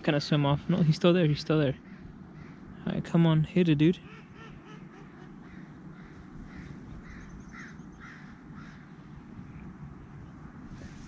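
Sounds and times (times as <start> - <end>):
birds calling faintly: 0.0 - 11.0
low wind rumble: 0.0 - 11.0.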